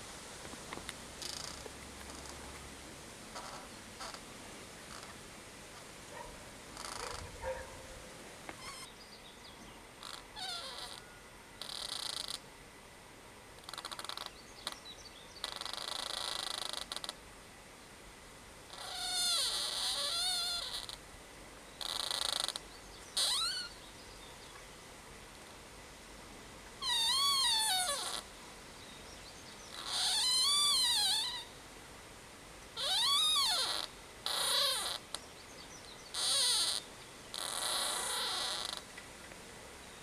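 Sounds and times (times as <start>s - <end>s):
trees creaking: 0.0s - 8.9s, 9.9s - 12.5s, 13.5s - 17.3s, 18.6s - 24.6s, 26.6s - 28.5s, 29.1s - 31.8s, 32.6s - 40.0s.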